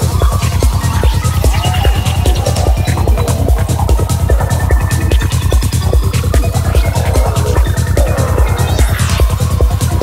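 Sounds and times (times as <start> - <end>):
dark psytrance music: 0.0 - 10.0.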